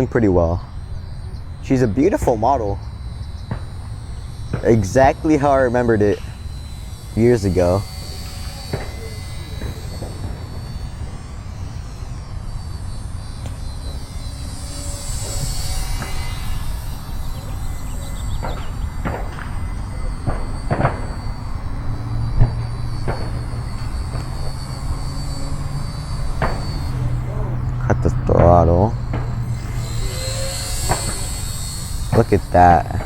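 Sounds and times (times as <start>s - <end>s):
small electric propeller buzzing: 0.0s - 33.0s.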